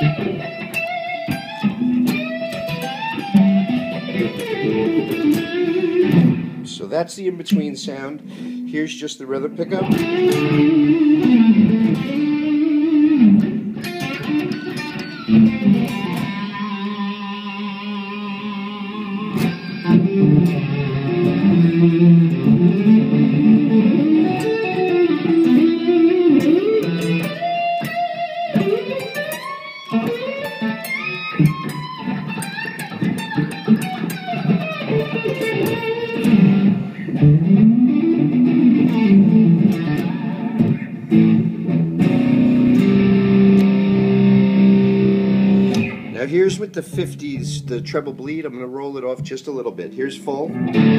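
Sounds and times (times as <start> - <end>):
electric guitar playing: 0.0 - 50.9.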